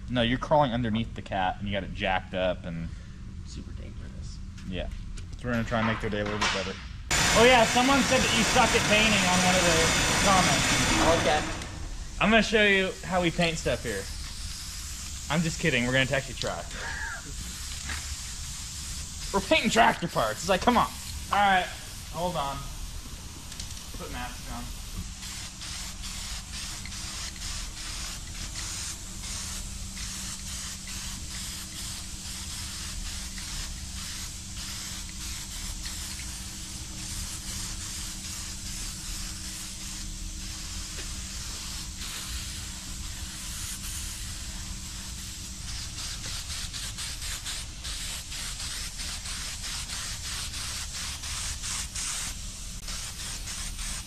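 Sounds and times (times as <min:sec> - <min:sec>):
spray paint can hissing: 0:07.1 - 0:54.0.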